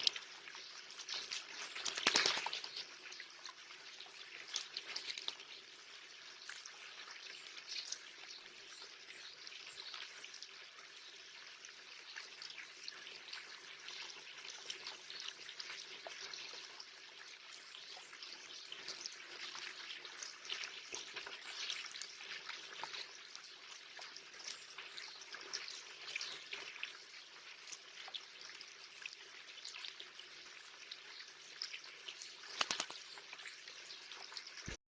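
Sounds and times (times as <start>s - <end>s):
light rain pattering and dripping: 0.0s - 34.8s.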